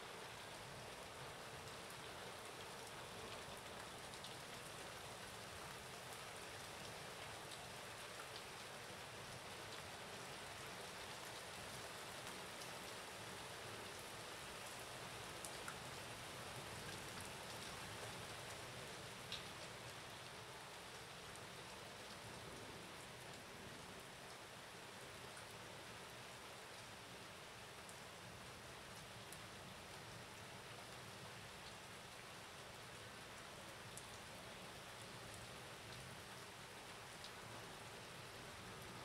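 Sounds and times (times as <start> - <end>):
faint steady rain: 0.0 - 39.0.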